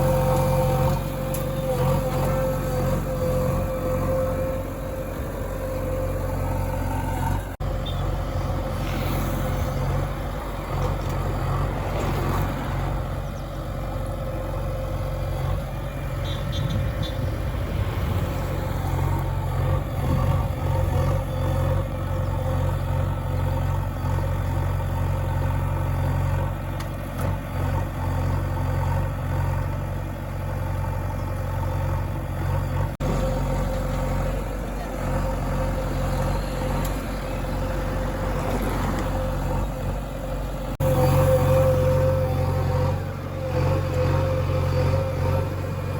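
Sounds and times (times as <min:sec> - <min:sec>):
heavy vehicle engine droning: 0:00.0 - 0:45.9.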